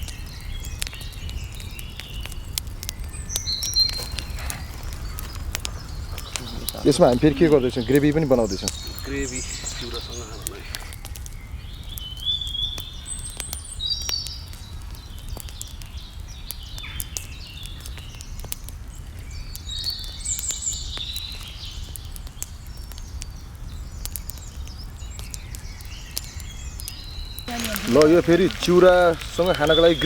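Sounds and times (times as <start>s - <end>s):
cooking crackles: 0.0s - 30.0s
small birds chirping: 0.0s - 30.0s.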